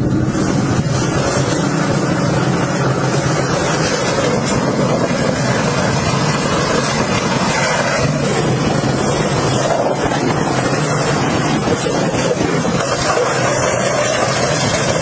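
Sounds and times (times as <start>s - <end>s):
engine running steadily: 0.0s - 15.0s
loud rushing noise: 0.0s - 15.0s.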